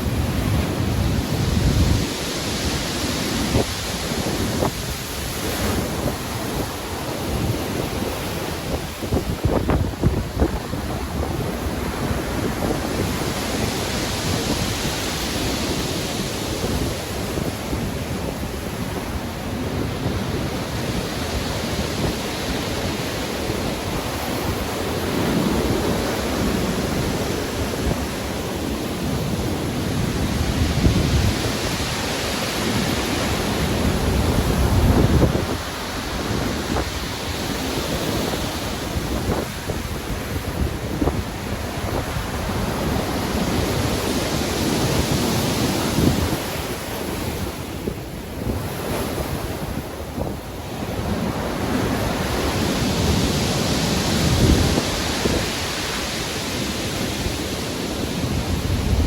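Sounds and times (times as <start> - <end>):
waves breaking roar: 0.0 - 59.0.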